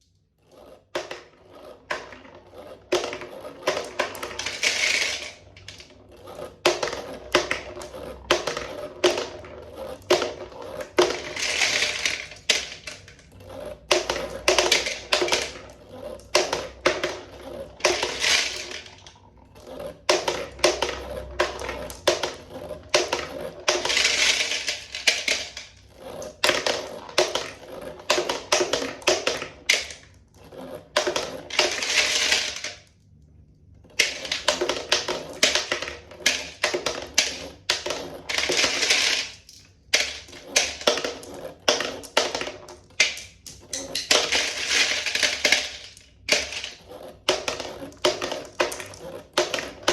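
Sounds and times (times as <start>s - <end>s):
marbles rattling down marble run: 0.6s - 33.0s, 33.9s - 49.9s.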